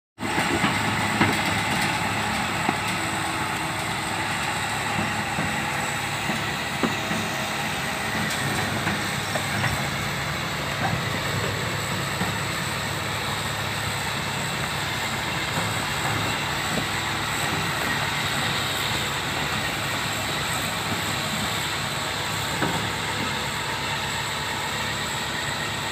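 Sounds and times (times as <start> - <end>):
crawler tracks clanking: 0.2 - 25.8
diesel engine running: 0.2 - 25.9.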